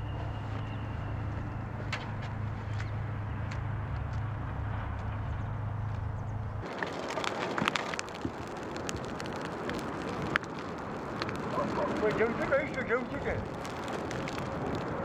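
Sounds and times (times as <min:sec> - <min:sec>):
bonfire crackling and popping: 0:00.0 - 0:15.0.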